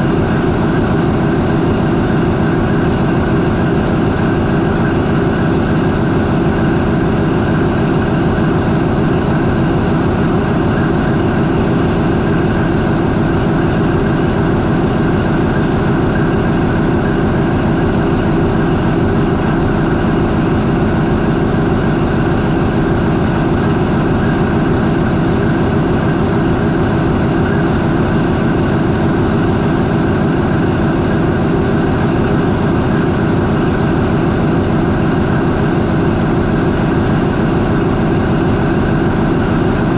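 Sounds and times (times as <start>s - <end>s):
diesel engine idling drone: 0.0s - 39.9s.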